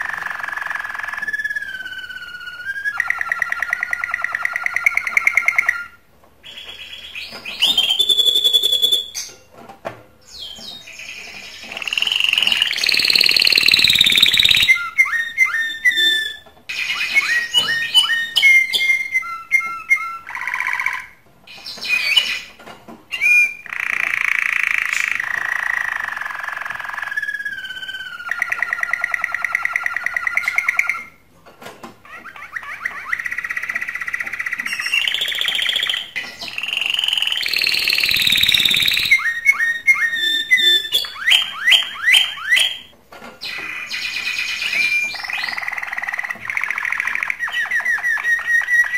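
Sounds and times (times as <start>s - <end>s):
canary singing: 0.0s - 9.6s, 10.2s - 31.3s, 32.0s - 48.9s.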